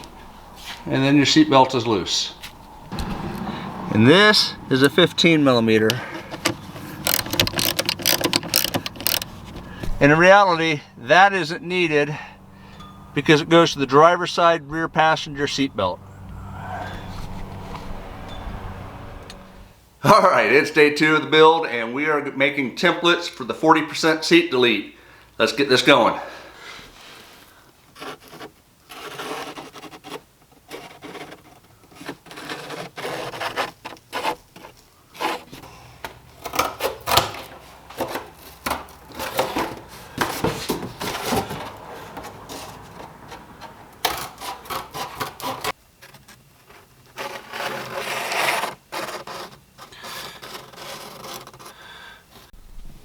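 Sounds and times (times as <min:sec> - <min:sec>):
rubbing and scraping: 0:00.0 - 0:18.7, 0:26.7 - 0:53.0.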